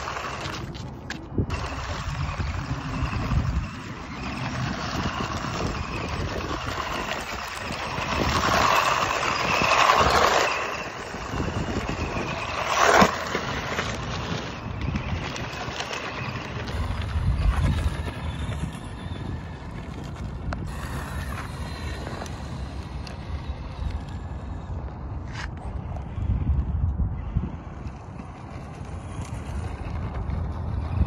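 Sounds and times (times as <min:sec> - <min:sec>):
toy car tyres scrabbling on gravel: 0:00.0 - 0:26.4, 0:27.2 - 0:31.0.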